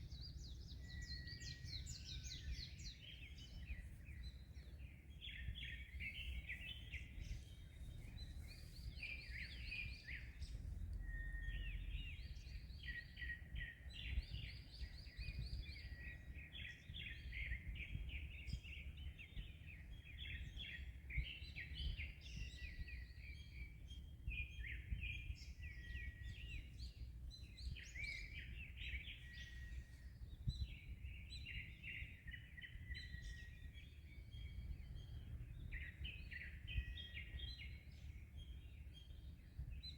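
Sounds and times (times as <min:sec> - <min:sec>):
birds singing: 0:00.0 - 0:39.9
wind: 0:00.0 - 0:39.9.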